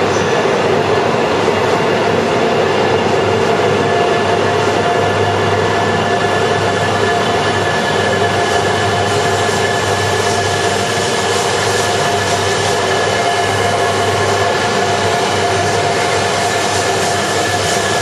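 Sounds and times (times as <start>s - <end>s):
train rolling noise: 0.0s - 18.0s
train whine: 0.0s - 18.0s.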